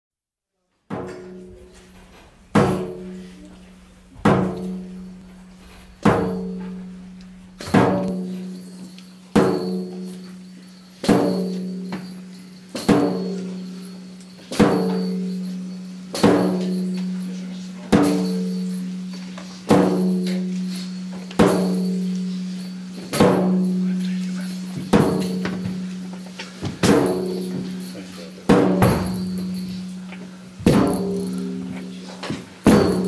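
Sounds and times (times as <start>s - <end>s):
drum strikes with low ringing hum: 0.9s - 10.1s, 14.5s - 17.3s, 17.9s - 33.0s.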